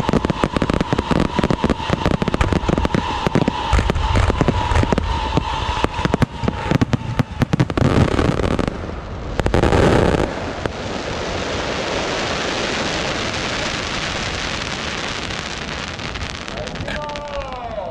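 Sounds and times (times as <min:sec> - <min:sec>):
fireworks bangs and pops: 0:00.0 - 0:17.9
fireworks hiss: 0:00.0 - 0:17.9.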